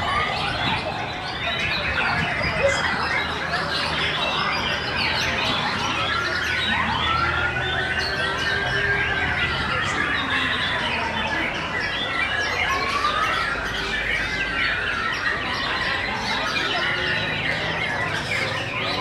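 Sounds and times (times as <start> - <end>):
caged songbirds chorus: 0.0 - 19.0.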